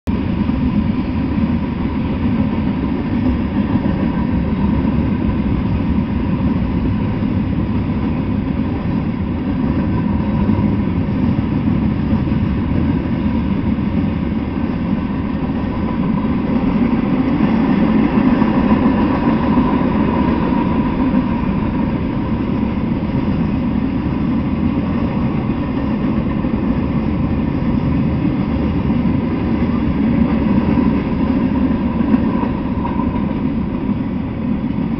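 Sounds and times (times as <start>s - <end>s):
freight train wheels rumbling on rails: 0.0s - 34.9s.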